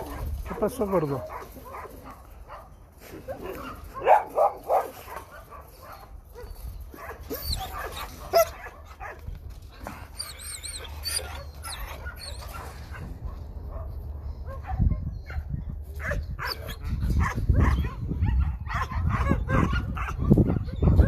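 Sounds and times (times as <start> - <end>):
dogs barking: 0.0 - 9.3, 10.2 - 21.0.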